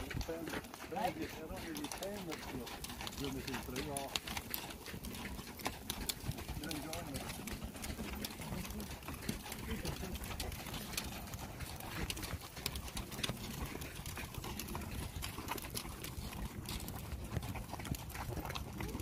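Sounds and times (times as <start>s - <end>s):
horses' hooves clip-clopping: 0.0s - 19.0s.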